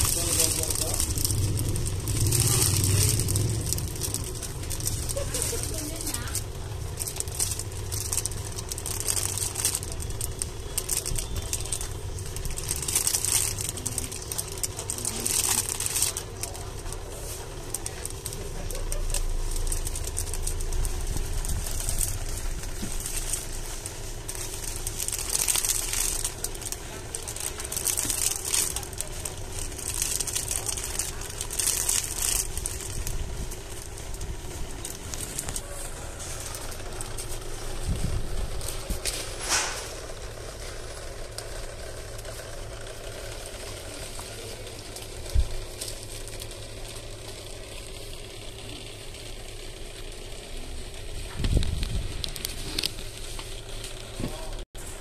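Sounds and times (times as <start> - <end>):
low background rumble: 0.0 - 55.0
plastic packaging crinkling: 0.0 - 55.0.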